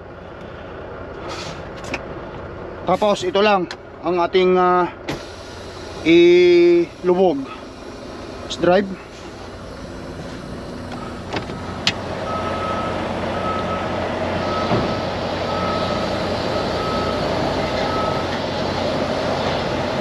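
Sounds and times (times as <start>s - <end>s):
diesel truck engine under load: 0.0s - 20.0s.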